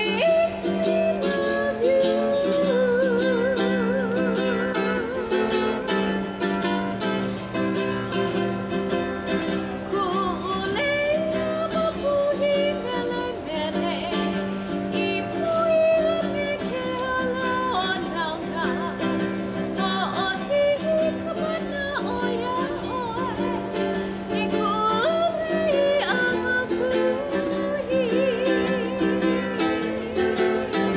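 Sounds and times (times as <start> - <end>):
woman singing: 0.0 - 7.0, 9.3 - 30.9
ukulele strumming: 0.0 - 30.9.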